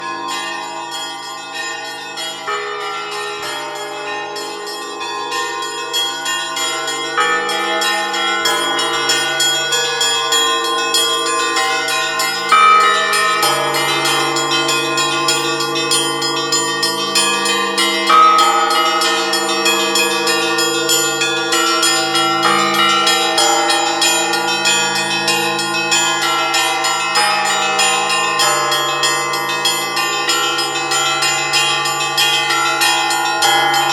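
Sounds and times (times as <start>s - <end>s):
bell tower peal: 0.0s - 33.9s
small bells chiming rapidly: 0.0s - 33.9s.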